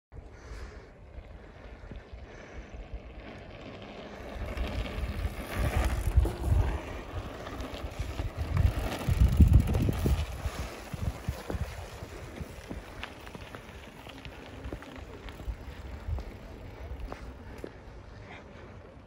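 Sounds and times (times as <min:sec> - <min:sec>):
wind buffeting microphone: 0:00.2 - 0:17.7
bike tyres rolling on dirt: 0:00.2 - 0:19.0.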